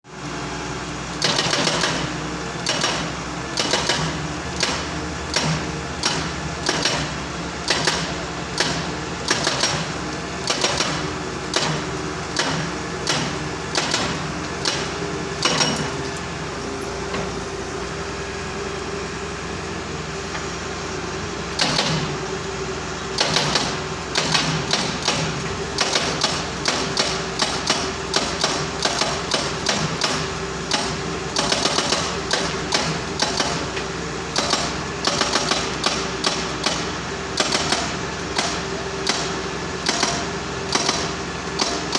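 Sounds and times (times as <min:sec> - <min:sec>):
excavator engine drone: 0:00.1 - 0:41.9
hydraulic breaker hammering: 0:01.2 - 0:16.4, 0:21.5 - 0:22.2, 0:23.1 - 0:41.9.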